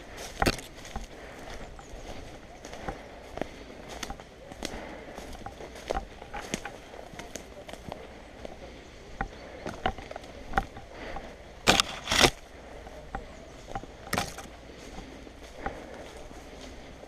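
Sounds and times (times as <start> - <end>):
rustling through brush and leaves: 0.0 - 17.0.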